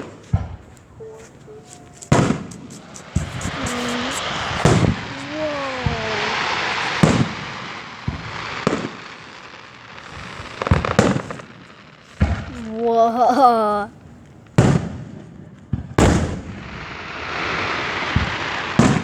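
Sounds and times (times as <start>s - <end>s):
fireworks bangs: 0.0s - 19.0s
fireworks crackling hiss: 0.0s - 19.0s.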